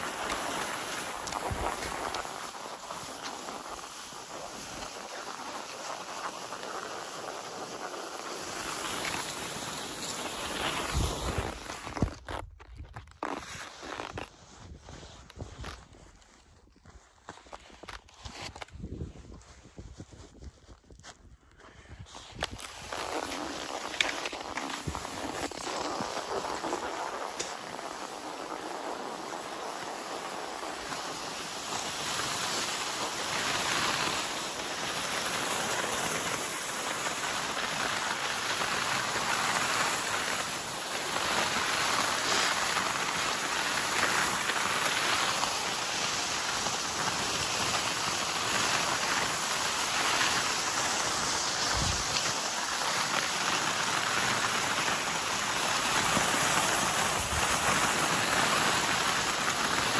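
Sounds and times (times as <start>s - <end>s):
skis swishing on snow: 0.0s - 20.6s, 21.8s - 59.9s.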